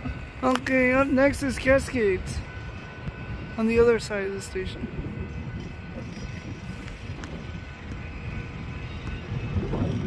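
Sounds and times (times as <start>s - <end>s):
train rumbling along tracks: 0.0s - 10.0s
wind buffeting microphone: 0.0s - 10.0s.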